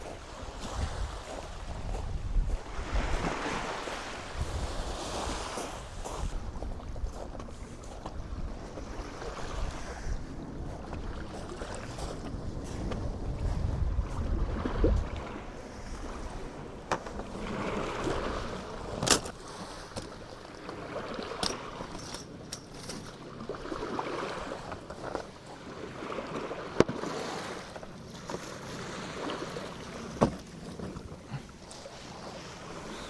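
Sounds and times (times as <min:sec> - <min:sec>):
wind rumbling on microphone: 0:00.0 - 0:26.8
sea waves washing onto beach: 0:00.0 - 0:33.0.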